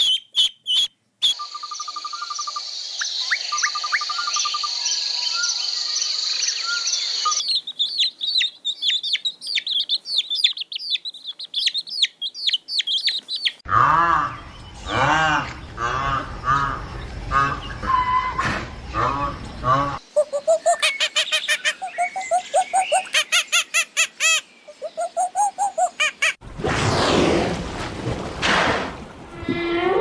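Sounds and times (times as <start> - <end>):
birds chirping and trilling: 0.0 - 26.4.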